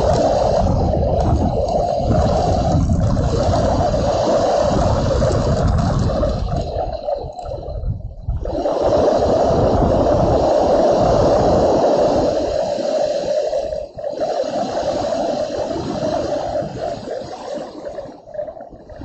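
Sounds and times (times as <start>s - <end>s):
rush of wind and rain: 0.0s - 18.1s.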